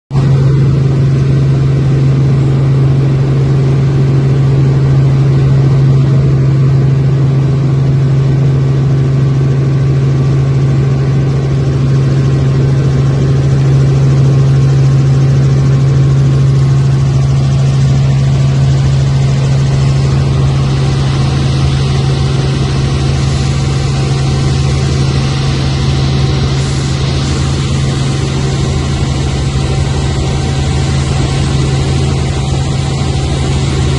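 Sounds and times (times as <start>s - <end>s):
helicopter cabin drone: 0.1s - 33.9s.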